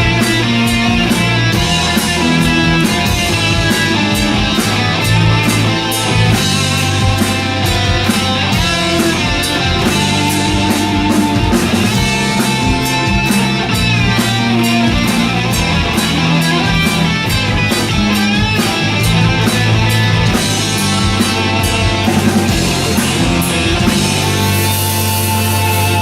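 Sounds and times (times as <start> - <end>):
bass guitar: 0.0 - 26.0
distorted electric guitar: 0.0 - 26.0
drum kit beat: 0.0 - 26.0.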